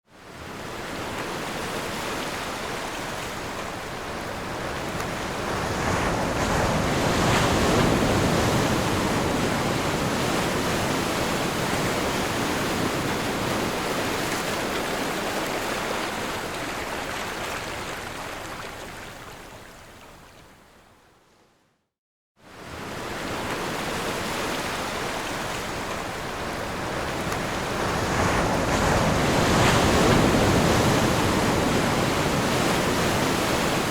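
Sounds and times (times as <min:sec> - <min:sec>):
sea waves washing on shore: 0:00.2 - 0:20.0, 0:22.5 - 0:33.9.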